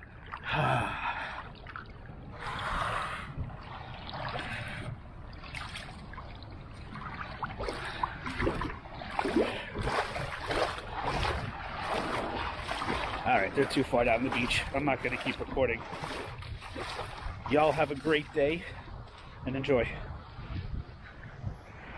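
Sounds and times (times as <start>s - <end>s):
water splashing and sloshing: 0.0s - 21.9s.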